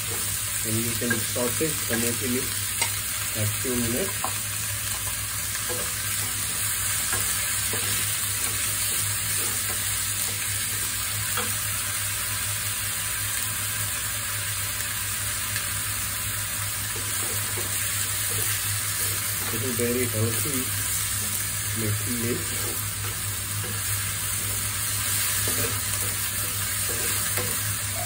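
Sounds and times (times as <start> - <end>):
leaves sizzling in hot oil: 0.0 - 28.0.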